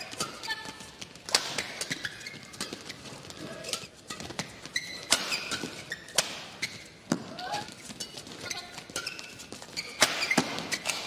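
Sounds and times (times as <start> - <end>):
rackets striking shuttlecock: 0.0 - 0.5, 1.1 - 11.0
court shoes squeaking: 0.0 - 11.0.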